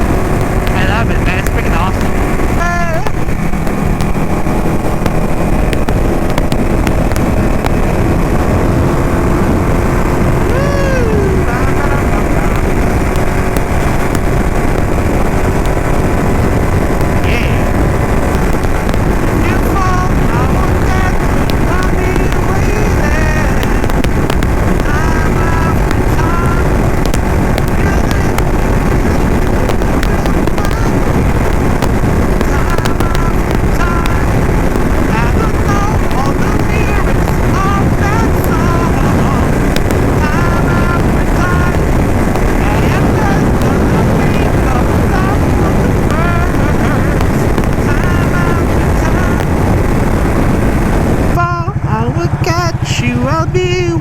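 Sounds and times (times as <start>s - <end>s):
motorcycle engine running: 0.0s - 54.0s
road noise: 0.0s - 54.0s
wind rushing over microphone: 0.0s - 54.0s.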